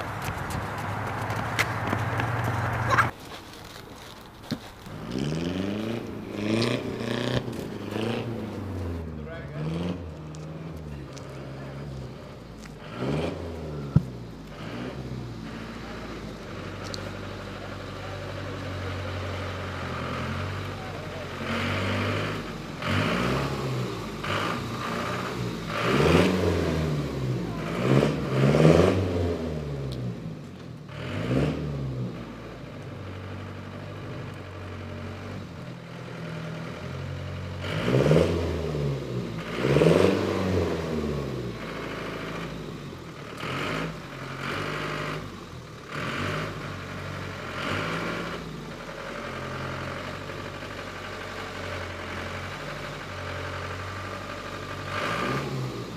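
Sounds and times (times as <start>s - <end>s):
truck engine revving: 0.0s - 3.2s, 4.8s - 55.9s.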